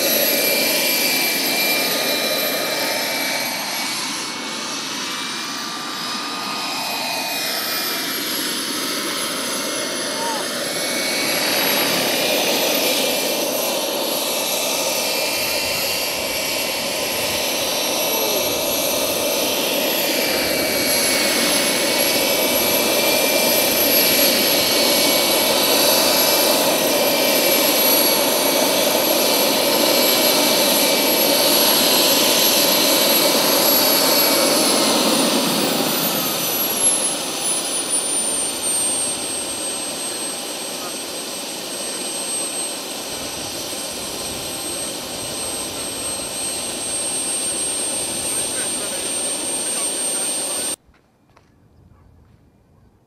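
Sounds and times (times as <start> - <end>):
model helicopter turbine whine: 0.0 - 50.8.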